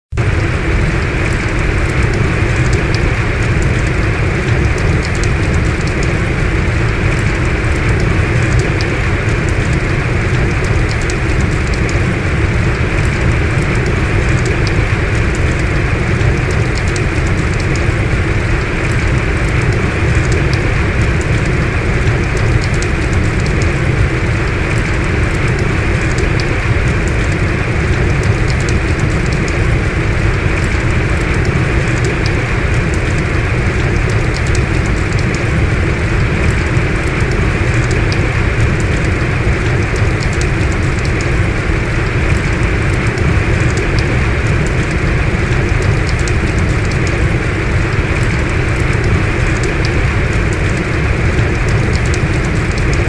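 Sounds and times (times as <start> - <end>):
heavy rain downpour: 0.1 - 53.0
raindrops ticking: 0.1 - 53.0.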